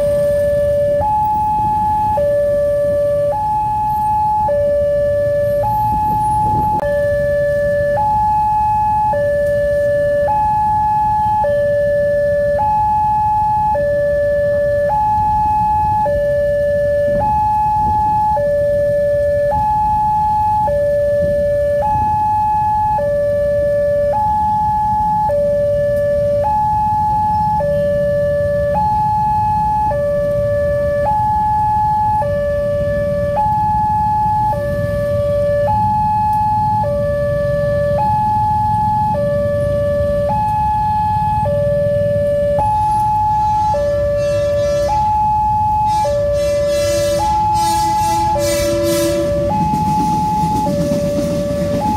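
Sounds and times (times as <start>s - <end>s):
motorcycles and traffic rumbling: 0.0s - 51.9s
two-tone crossing alarm: 0.0s - 51.9s.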